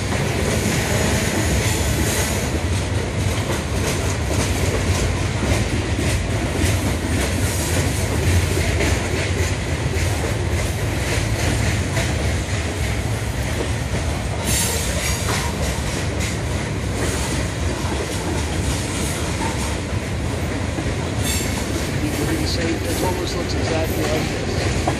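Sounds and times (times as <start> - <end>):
train wheels rumbling on rail: 0.0 - 24.9
wheels clicking over rail joints: 0.0 - 24.9.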